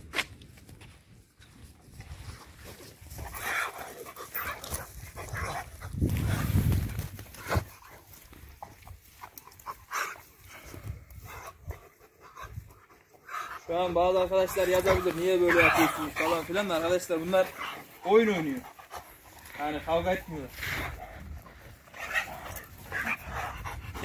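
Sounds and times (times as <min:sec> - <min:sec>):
dogs play-fighting: 0:02.0 - 0:24.0.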